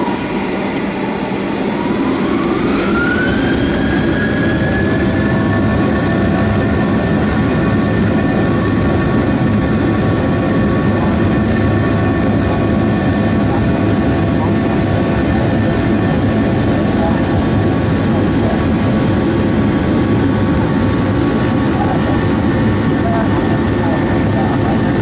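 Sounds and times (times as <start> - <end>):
jet engine whine: 0.0 - 25.0
low engine rumble: 0.0 - 25.0.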